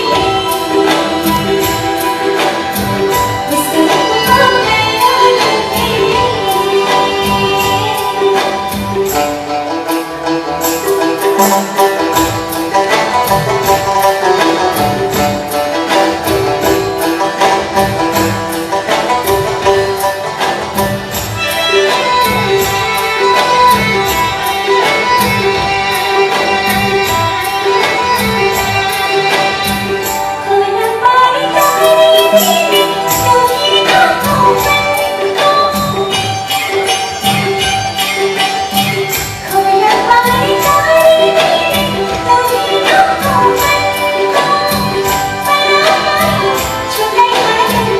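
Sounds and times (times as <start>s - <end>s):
hand drum beat: 0.0s - 30.8s, 31.5s - 47.9s
bowed violins melody: 0.0s - 47.9s.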